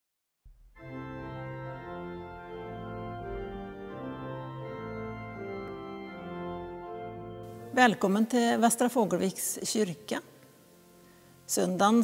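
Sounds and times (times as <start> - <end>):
organ chords: 0.5 - 12.0.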